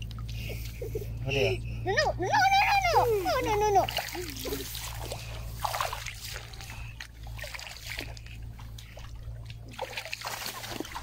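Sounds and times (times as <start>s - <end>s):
steady low hum: 0.0s - 11.0s
water splashing and trickling: 0.0s - 11.0s.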